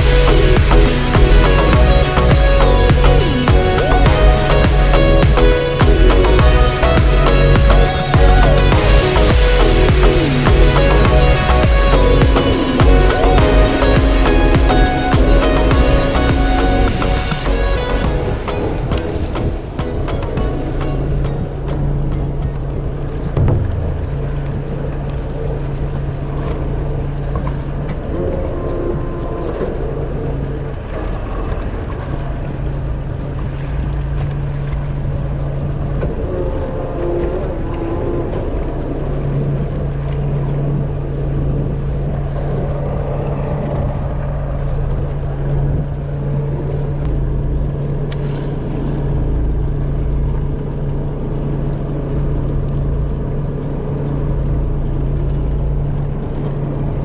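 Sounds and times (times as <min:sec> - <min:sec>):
boat engine humming: 0:00.0 - 0:57.0
water noise: 0:00.0 - 0:57.0.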